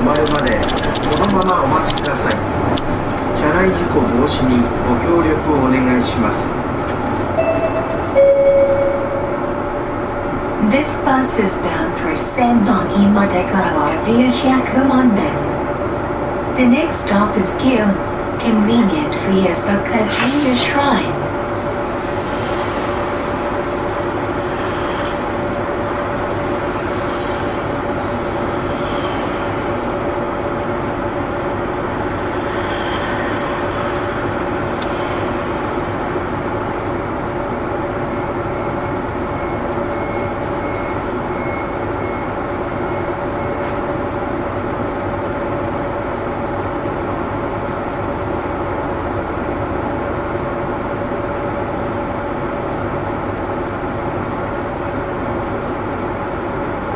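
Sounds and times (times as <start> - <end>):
bus engine drone: 0.0 - 56.9
constant hum: 0.0 - 56.9.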